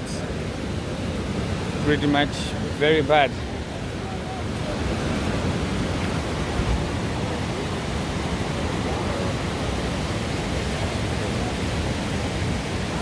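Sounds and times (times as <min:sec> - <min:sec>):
river floodwater rushing: 0:00.0 - 0:13.0.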